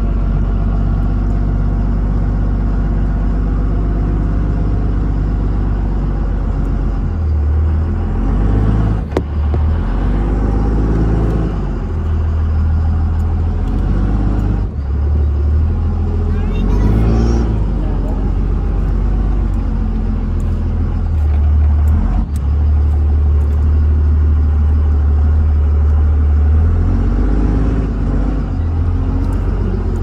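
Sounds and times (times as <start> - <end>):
truck engine under load: 0.0 - 30.0.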